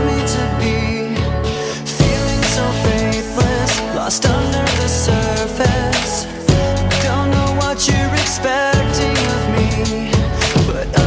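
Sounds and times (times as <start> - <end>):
hip-hop beat: 0.0 - 11.0.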